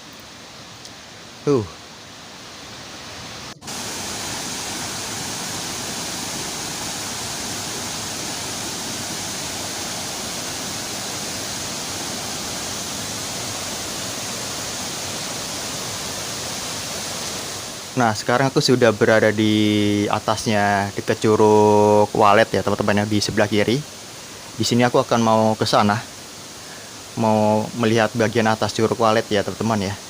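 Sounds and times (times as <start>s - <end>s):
waterfall and river rushing: 0.0s - 30.0s.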